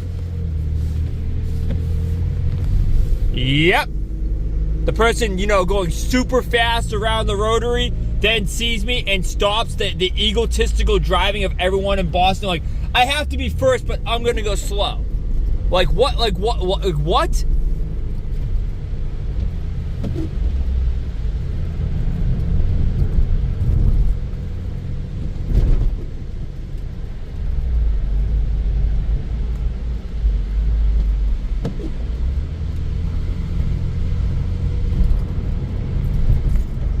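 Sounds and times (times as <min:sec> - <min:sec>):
car driving on road: 0:00.0 - 0:37.0.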